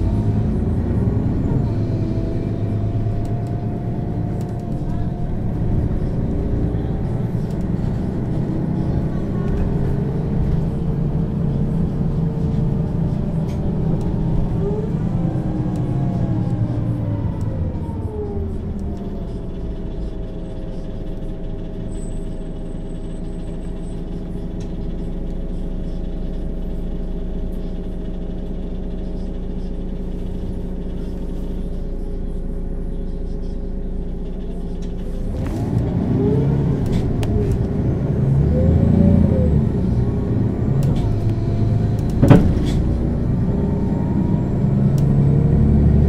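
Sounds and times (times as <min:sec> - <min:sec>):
bus diesel engine revving: 0:00.0 - 0:31.5, 0:33.9 - 0:46.0.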